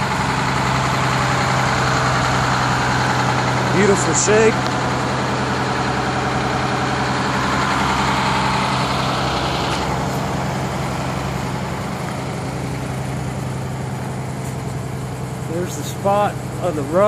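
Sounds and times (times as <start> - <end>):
diesel bus engine idling: 0.0 - 17.0.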